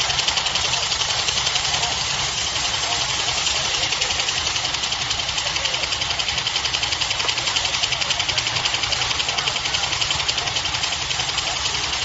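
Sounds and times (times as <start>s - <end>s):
band saw machine clattering: 0.0s - 12.0s.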